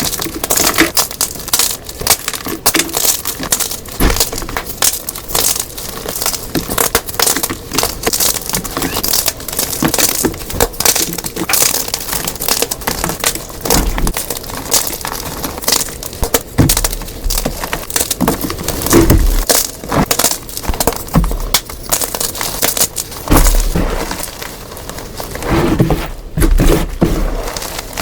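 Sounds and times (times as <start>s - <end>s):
chalk blocks crunching: 0.0s - 28.0s.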